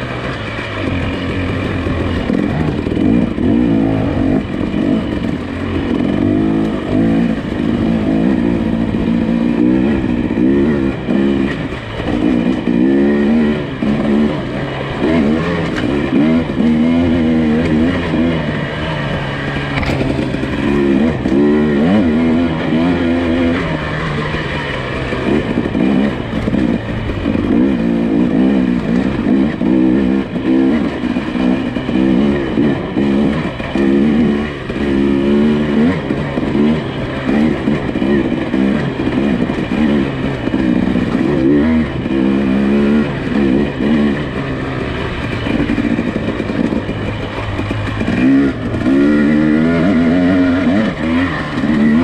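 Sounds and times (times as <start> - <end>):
engine revving up and down: 0.0 - 52.0.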